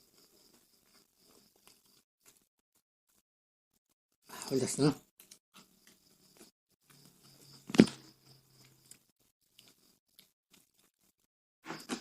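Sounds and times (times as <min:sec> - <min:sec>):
chewing crispy fried snacks: 0:00.0 - 0:03.2, 0:03.8 - 0:11.3.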